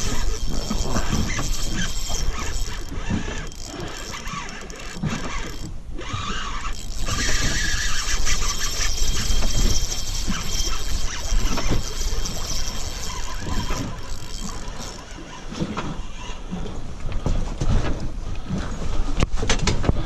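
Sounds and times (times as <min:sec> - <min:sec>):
fishing reel gears whirring: 0:00.0 - 0:16.4.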